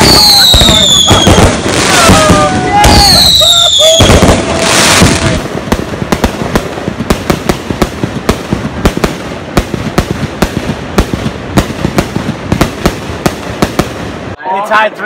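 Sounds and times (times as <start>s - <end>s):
fireworks pops and bangs: 0.0s - 14.2s.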